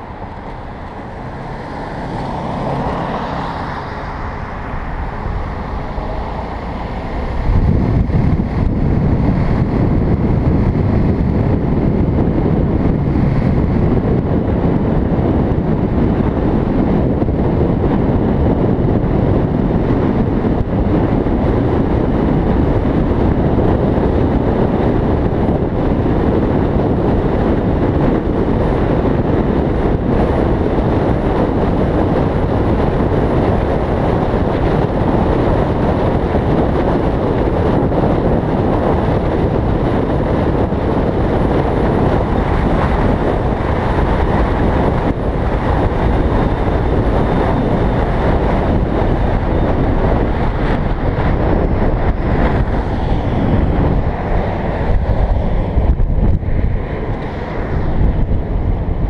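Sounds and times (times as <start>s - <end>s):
highway traffic: 0.0s - 59.0s
road noise: 0.0s - 59.0s
wind rushing: 0.0s - 59.0s.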